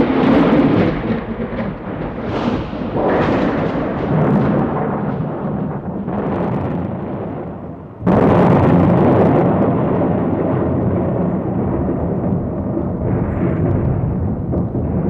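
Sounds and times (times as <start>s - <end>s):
thunder crack and rumble: 0.0s - 15.0s.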